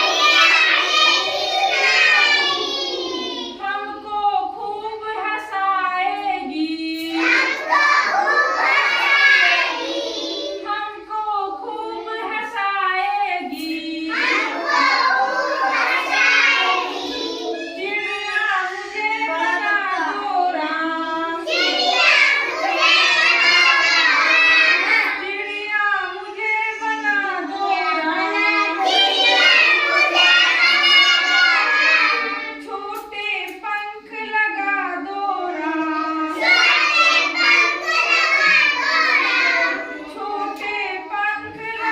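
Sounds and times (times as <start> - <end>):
children chanting in a group: 0.0 - 4.1, 7.0 - 12.3, 13.8 - 32.7, 35.4 - 41.9.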